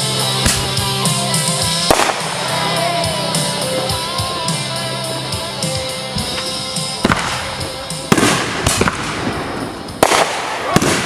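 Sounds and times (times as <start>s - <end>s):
fireworks bangs with crackling: 0.0s - 11.0s.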